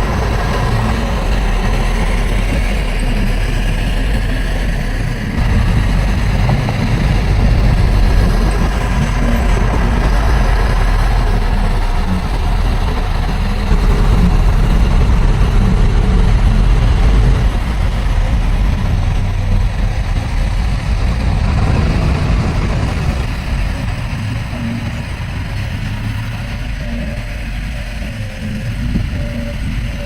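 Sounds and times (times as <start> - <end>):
heavy diesel engine rumbling: 0.0 - 30.0.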